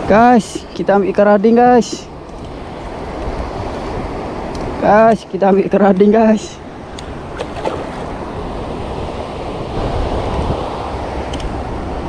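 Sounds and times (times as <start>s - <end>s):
wind buffeting microphone: 1.6s - 12.0s.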